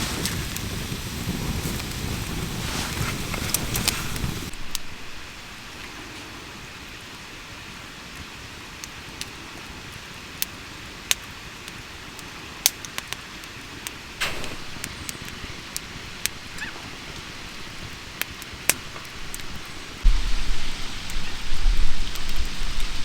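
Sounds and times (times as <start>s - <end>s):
campfire crackling and popping: 0.0s - 6.1s, 8.1s - 23.0s.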